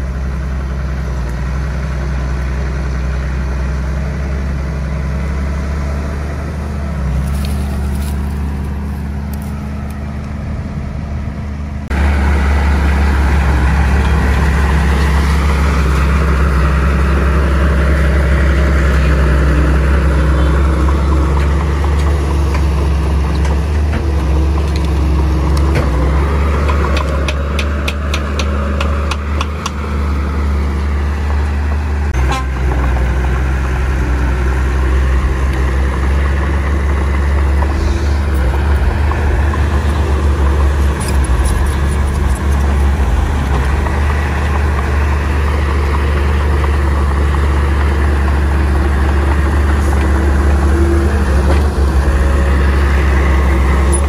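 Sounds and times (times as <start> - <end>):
bulldozer diesel engines: 0.0 - 54.0.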